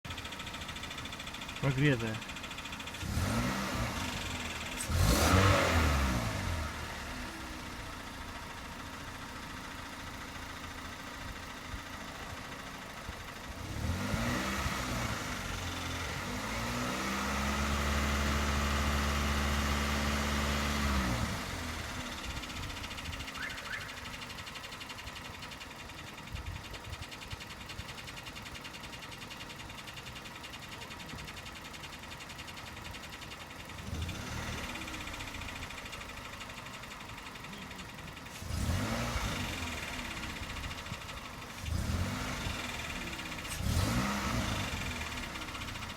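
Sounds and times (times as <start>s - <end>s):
car engine idling and revving: 0.0s - 45.9s
engine knocking: 0.1s - 5.9s, 6.6s - 45.9s.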